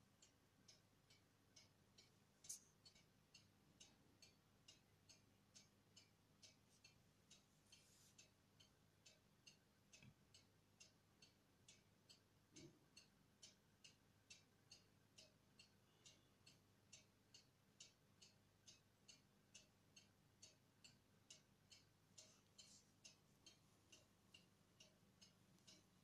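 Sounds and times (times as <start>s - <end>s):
faint even ticking: 0.0s - 26.0s.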